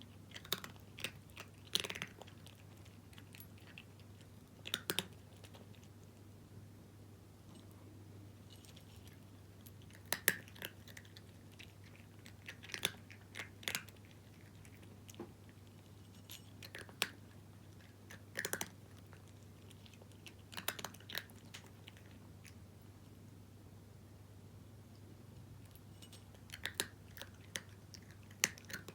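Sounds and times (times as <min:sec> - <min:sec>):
cat crunching dry kibble: 0:00.0 - 0:06.3, 0:08.4 - 0:22.6, 0:25.6 - 0:28.9.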